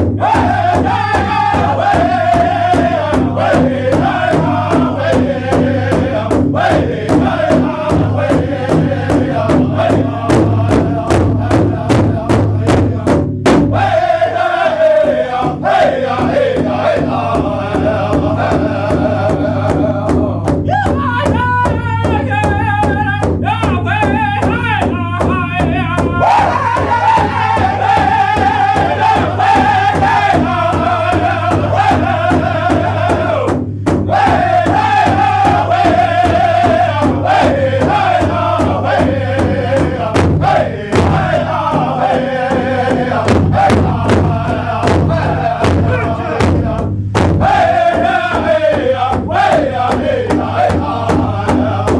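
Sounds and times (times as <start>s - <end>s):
drum beat: 0.0s - 51.9s.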